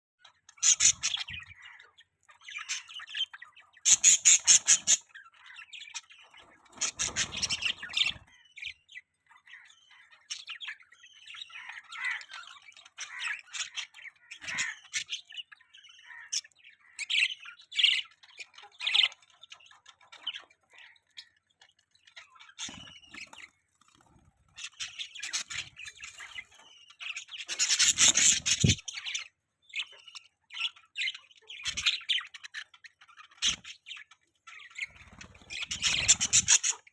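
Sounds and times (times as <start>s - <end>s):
budgerigars chirping and chattering: 0.2s - 36.9s.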